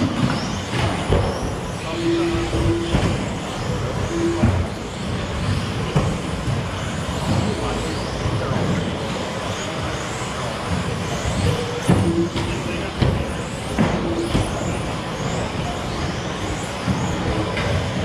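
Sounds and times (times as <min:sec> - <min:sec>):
trucks knocking on track: 0:00.0 - 0:09.1, 0:10.3 - 0:18.0
electric motors whining: 0:00.0 - 0:18.0.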